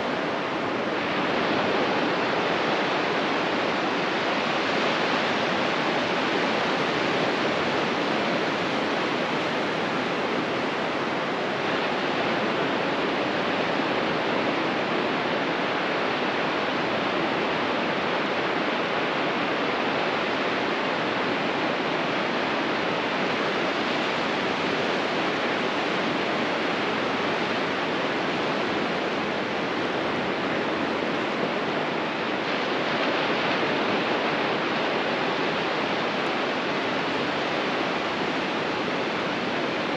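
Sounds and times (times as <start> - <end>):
ocean surf on beach: 0.0 - 39.9.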